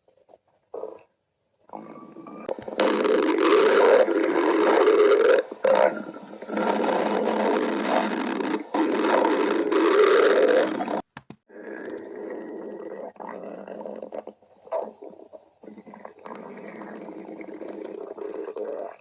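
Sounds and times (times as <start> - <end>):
stomach growling: 0.0 - 19.0.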